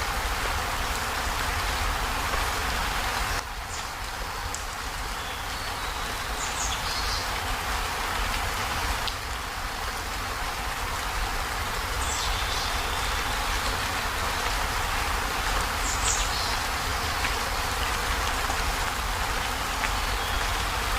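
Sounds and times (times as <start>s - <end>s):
heavy rain on a metal roof: 0.0s - 20.9s.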